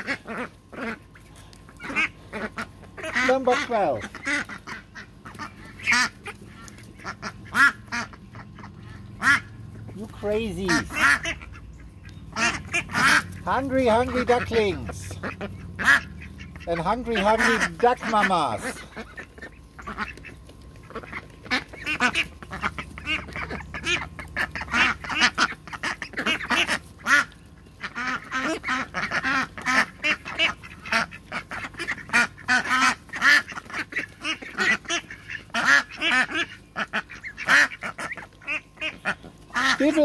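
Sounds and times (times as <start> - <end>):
ducks quacking: 0.0 - 40.0.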